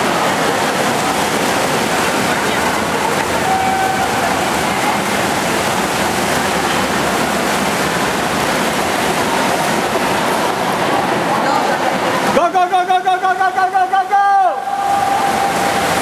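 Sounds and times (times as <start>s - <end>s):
echoing rushing noise: 0.0s - 16.0s
swimmers splashing: 0.0s - 16.0s.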